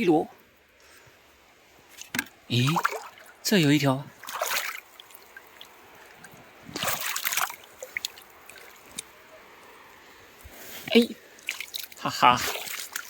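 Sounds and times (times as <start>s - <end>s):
shallow water splashing and trickling: 0.8s - 13.0s.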